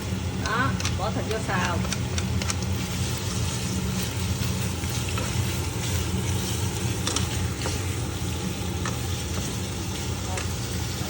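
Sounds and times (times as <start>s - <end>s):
pork sizzling in hot oil: 0.0s - 11.0s.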